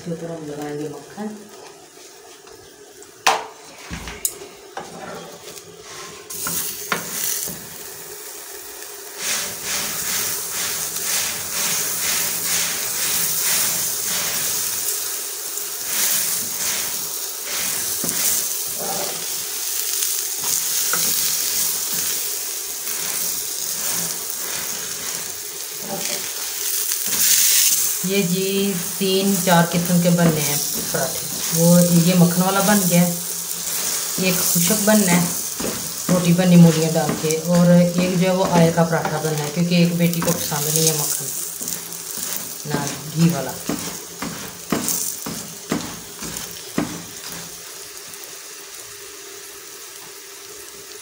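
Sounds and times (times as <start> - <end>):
butter sizzling on griddle: 4.7 - 51.0
scraping on griddle: 4.8 - 7.7, 9.1 - 15.1, 15.7 - 47.7.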